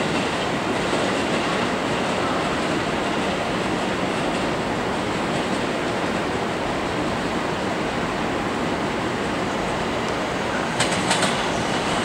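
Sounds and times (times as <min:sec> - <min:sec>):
electric train approaching slowly: 0:00.0 - 0:12.0.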